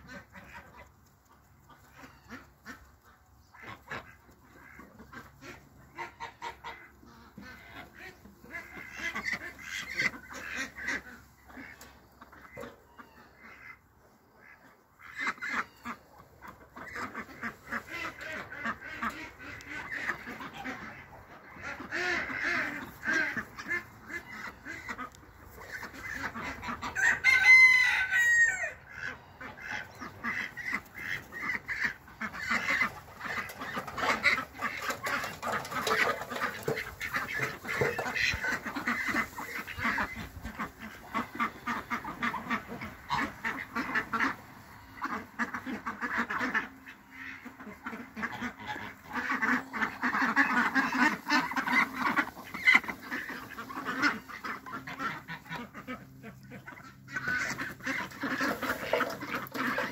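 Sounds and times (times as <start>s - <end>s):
ducks quacking: 0.0s - 59.9s.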